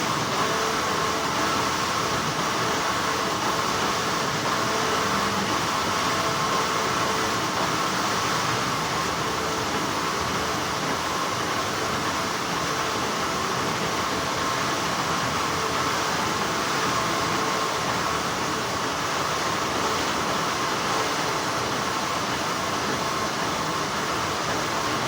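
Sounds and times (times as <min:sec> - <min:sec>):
factory machinery hum: 0:00.0 - 0:25.0
faint steady whine: 0:00.0 - 0:25.0.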